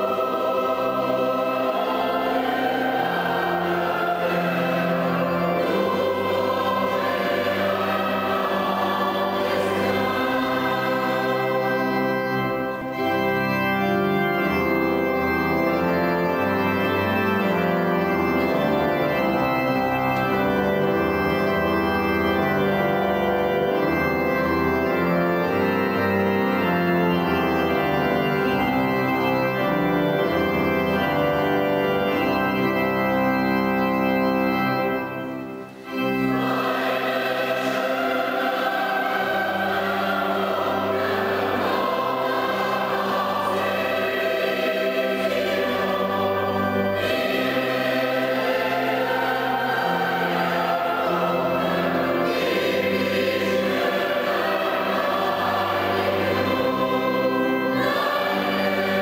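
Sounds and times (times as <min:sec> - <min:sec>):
choir singing: 0:00.0 - 0:59.0
organ chords: 0:00.0 - 0:59.0.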